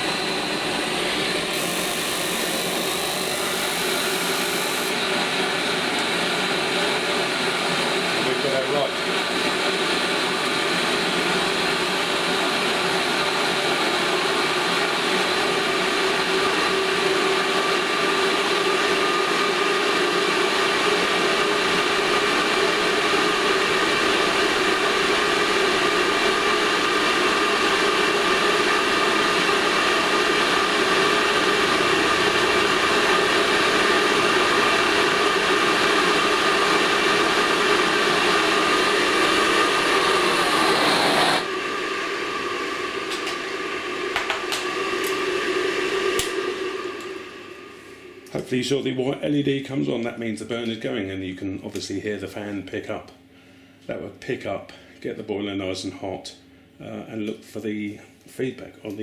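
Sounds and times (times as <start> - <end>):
boiler fan whirring: 0.0 - 59.0.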